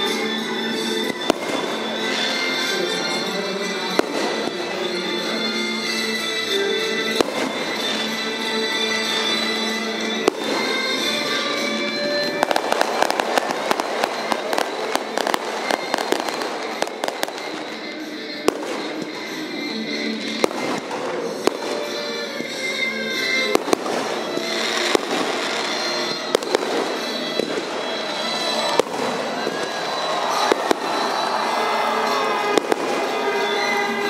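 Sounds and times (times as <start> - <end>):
fireworks bangs and crackles: 0.0 - 34.0
music: 0.0 - 34.0.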